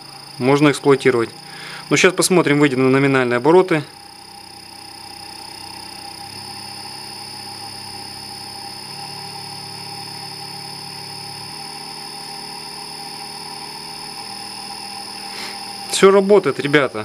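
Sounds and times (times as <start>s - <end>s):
electric motor whine: 0.0s - 17.0s
low electrical hum: 0.0s - 17.0s.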